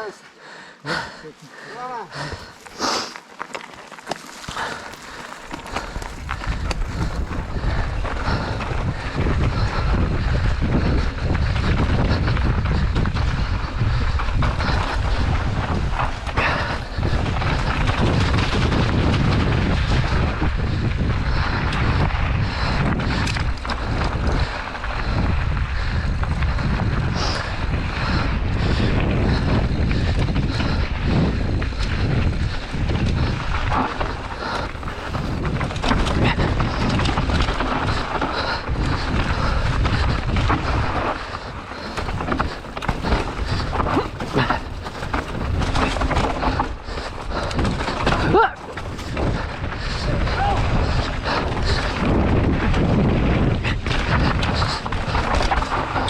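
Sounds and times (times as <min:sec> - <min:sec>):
bike rattling over bumps: 0:02.1 - 0:56.0
wind buffeting microphone: 0:03.8 - 0:56.0.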